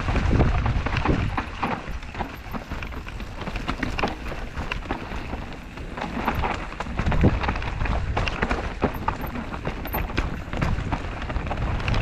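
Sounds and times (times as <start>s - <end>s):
bike rattling and knocking: 0.0s - 12.0s.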